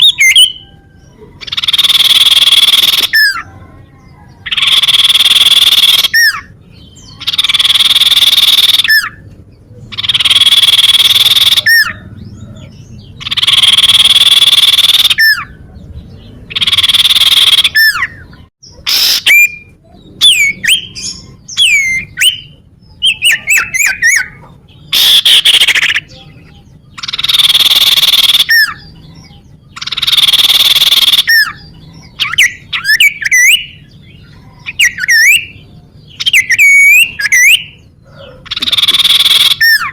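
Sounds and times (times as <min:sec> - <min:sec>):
bird harsh buzzy trills: 0:01.4 - 0:03.4, 0:04.5 - 0:09.3, 0:09.9 - 0:12.0, 0:13.2 - 0:15.6, 0:16.5 - 0:29.0, 0:29.7 - 0:39.9.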